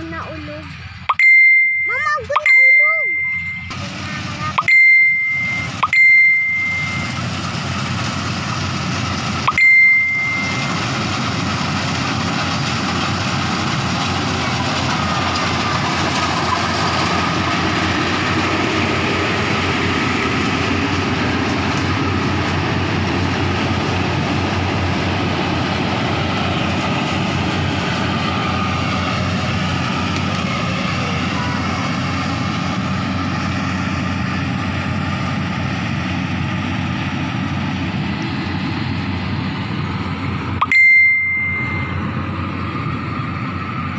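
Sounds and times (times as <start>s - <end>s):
harvesting machinery drone: 0.0s - 43.9s.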